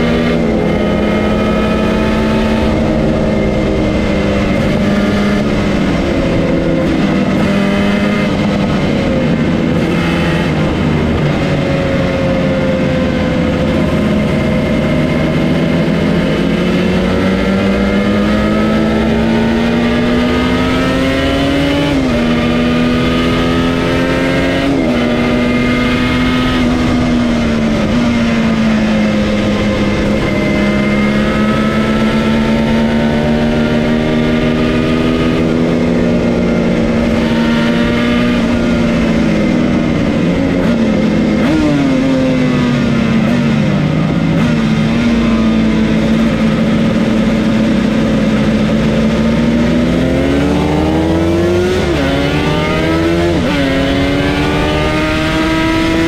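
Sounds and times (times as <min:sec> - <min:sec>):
motorcycle engine revving: 0:00.0 - 0:56.0
rushing wind: 0:00.0 - 0:56.0.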